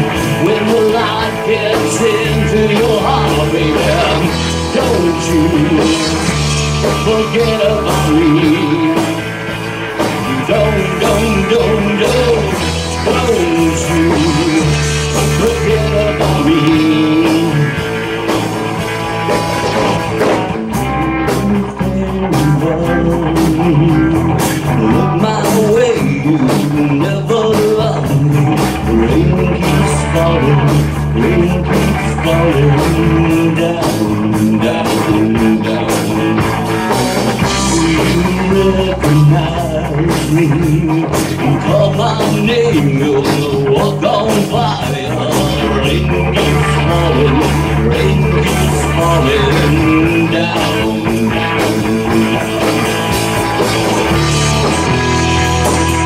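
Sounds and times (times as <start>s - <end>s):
live rock band playing: 0.0s - 56.0s
steady drum beat: 0.0s - 56.0s.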